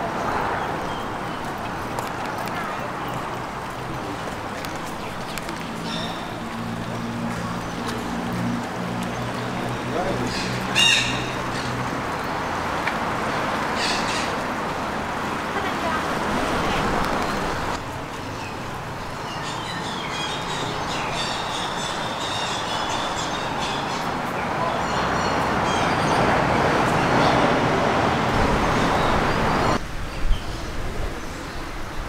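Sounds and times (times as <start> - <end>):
small birds chirping: 0.1 - 27.5.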